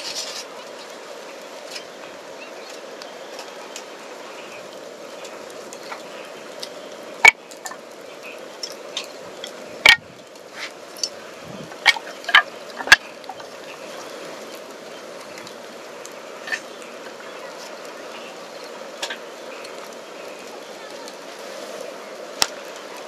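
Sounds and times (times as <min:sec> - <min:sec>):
fire crackling: 0:00.0 - 0:23.0
steady hiss: 0:00.0 - 0:23.0.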